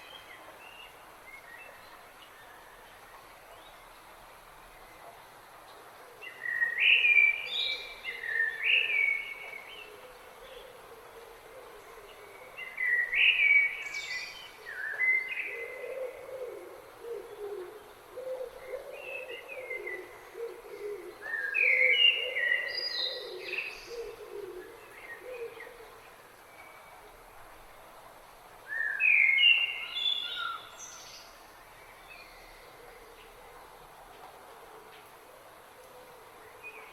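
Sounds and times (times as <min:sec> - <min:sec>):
flowing river water hiss: 0:00.0 - 0:36.9
songbird singing: 0:00.0 - 0:36.9.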